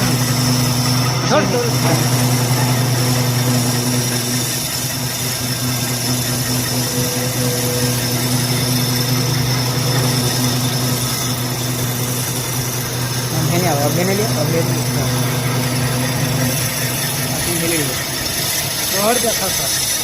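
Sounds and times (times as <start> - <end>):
lathe motor humming: 0.0 - 20.0.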